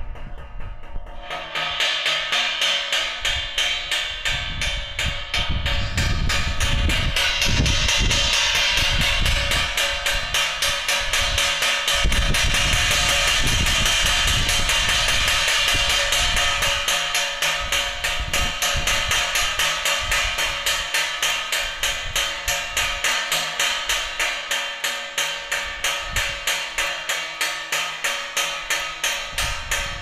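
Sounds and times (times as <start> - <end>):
steady continuous sound: 0.0 - 30.0
rapid metallic knocking: 0.2 - 30.0.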